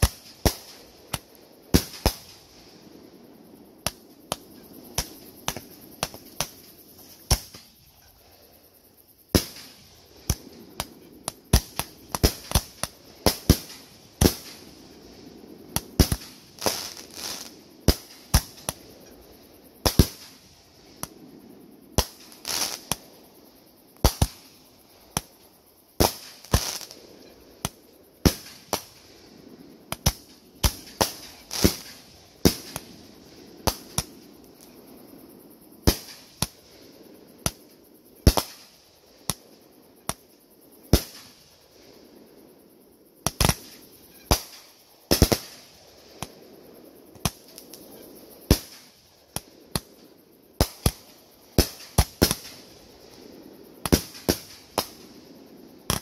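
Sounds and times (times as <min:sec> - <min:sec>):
fireworks bursting: 0:00.0 - 0:03.0, 0:03.6 - 0:23.3, 0:23.9 - 0:34.9, 0:35.8 - 0:41.9, 0:43.2 - 0:46.5, 0:47.1 - 0:56.0.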